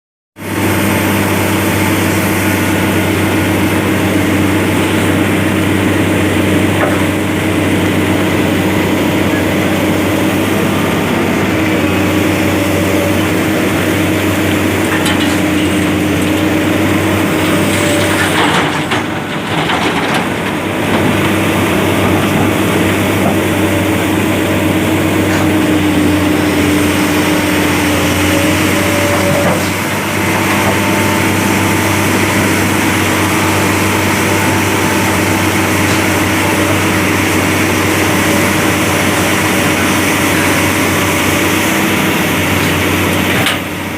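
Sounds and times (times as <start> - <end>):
heavy diesel engine running: 0.4 - 43.9.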